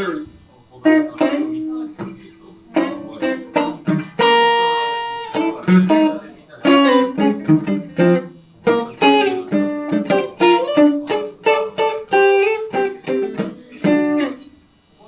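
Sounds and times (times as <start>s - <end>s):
electric guitar picked melody: 0.0s - 15.0s.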